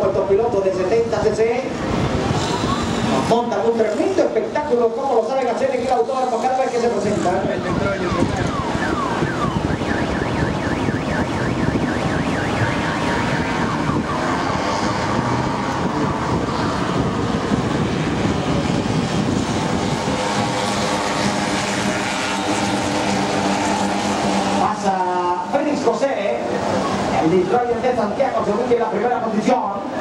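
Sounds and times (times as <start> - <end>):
scooter engines revving high: 1.8 - 4.2, 5.8 - 27.5.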